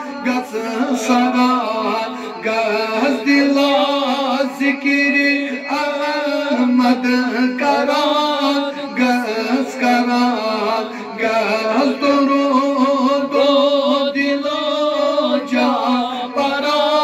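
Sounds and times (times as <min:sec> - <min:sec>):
men singing devotional song: 0:00.0 - 0:17.0.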